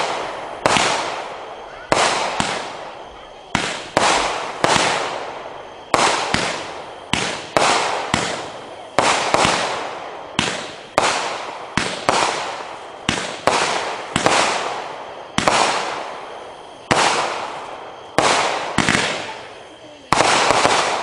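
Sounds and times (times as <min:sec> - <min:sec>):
firework cake aerial shots: 0:00.0 - 0:21.0.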